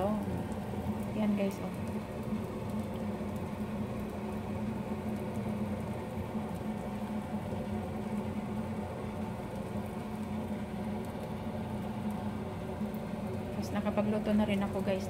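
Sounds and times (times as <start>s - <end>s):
food sizzling in oil: 0.0s - 15.0s
low mechanical hum: 0.0s - 15.0s.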